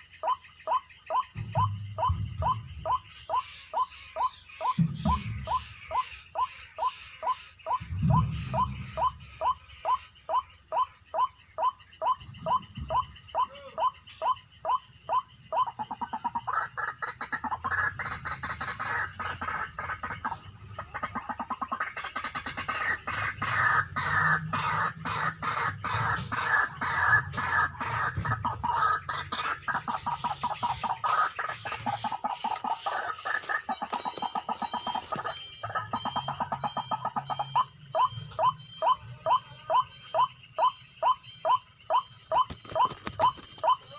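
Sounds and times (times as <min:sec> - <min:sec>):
waterhens calling: 0:00.0 - 0:43.9.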